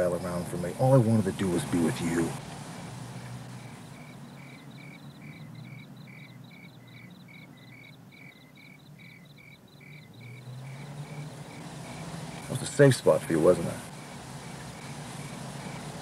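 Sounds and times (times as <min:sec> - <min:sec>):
crickets chirping: 0:01.6 - 0:16.0.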